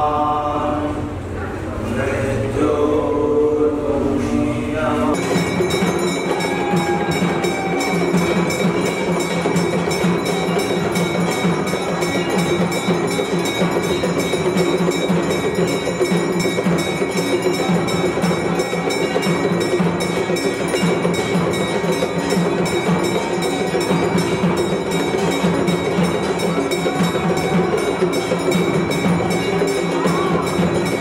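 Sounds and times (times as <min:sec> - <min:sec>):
temple bells ringing: 0:05.1 - 0:31.0
brass hand bell struck rapidly: 0:05.2 - 0:31.0.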